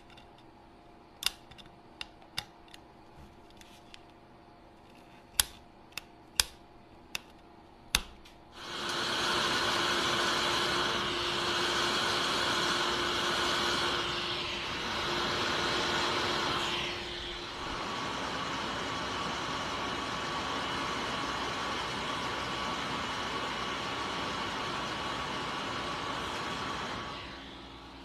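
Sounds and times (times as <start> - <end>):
hot air blower with faint whine: 0.0 - 28.0.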